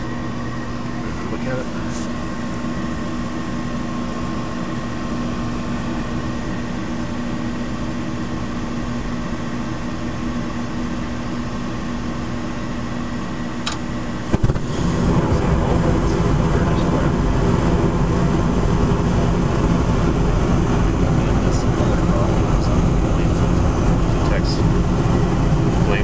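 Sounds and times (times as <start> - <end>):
furnace fan motor humming: 0.0 - 26.0.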